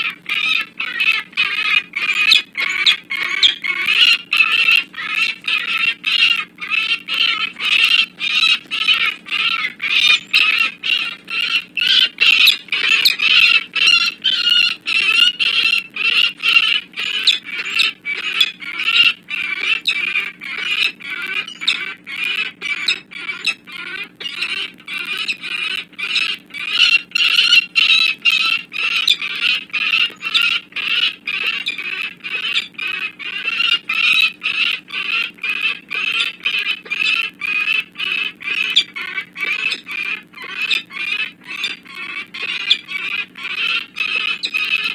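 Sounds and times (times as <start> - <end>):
falcon cacking alarm call: 0.0 - 44.9.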